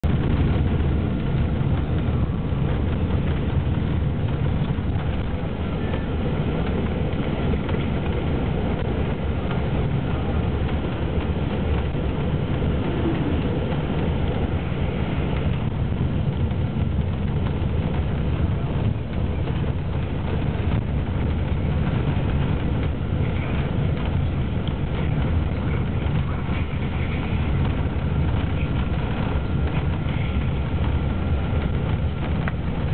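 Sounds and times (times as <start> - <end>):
bus engine and tyre rumble: 0.0 - 32.9.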